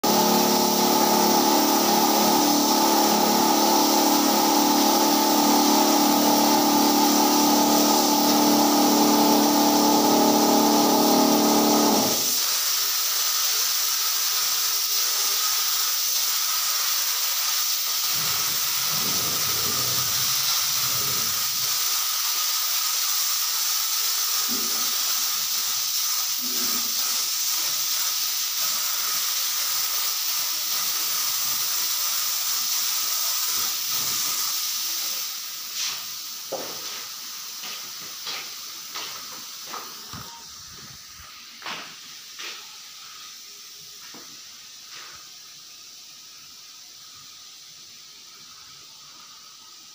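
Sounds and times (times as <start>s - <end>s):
spray gun hissing: 0.0s - 49.9s.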